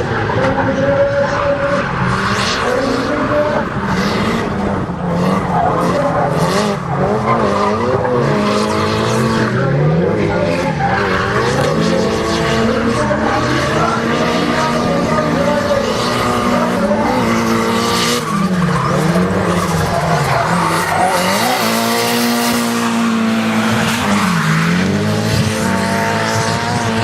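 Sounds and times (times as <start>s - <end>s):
race car engine revving: 0.0s - 27.0s
tyres skidding and squealing: 0.0s - 27.0s.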